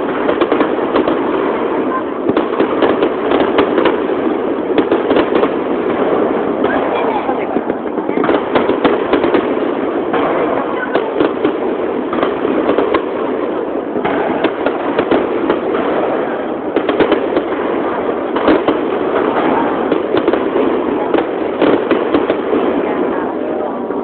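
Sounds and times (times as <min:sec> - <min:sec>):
fireworks bursting: 0:00.0 - 0:24.0
fireworks crackling: 0:00.0 - 0:24.0.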